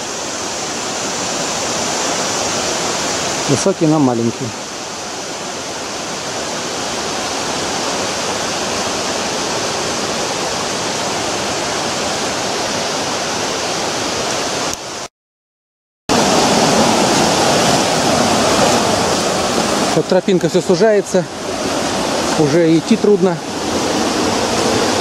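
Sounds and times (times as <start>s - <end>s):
river rushing in a gorge: 0.0s - 15.0s, 16.1s - 25.0s
waterfall rushing: 0.0s - 15.1s, 16.1s - 25.0s.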